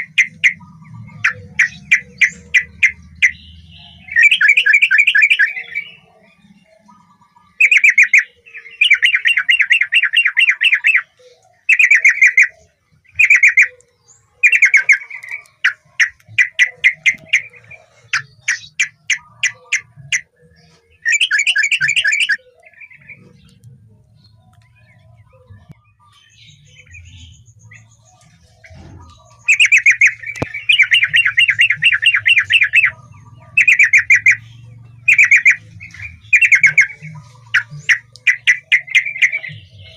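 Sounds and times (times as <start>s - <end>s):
bird singing bubbling phrases: 0.0s - 39.9s.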